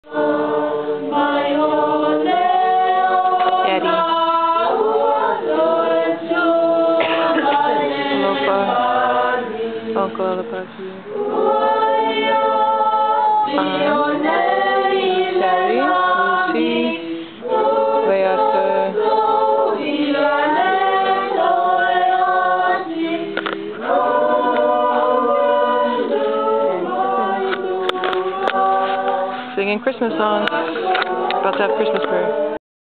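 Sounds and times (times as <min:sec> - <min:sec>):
group singing unaccompanied: 0:00.0 - 0:32.6.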